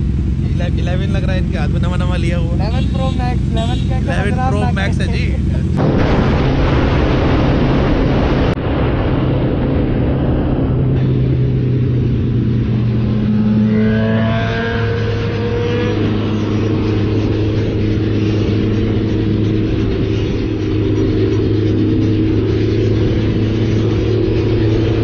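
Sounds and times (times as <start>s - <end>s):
motorcycle engine running: 0.0s - 5.8s, 10.6s - 25.0s
motorcycle accelerating: 0.0s - 8.6s, 9.3s - 25.0s
wind rush: 3.4s - 25.0s.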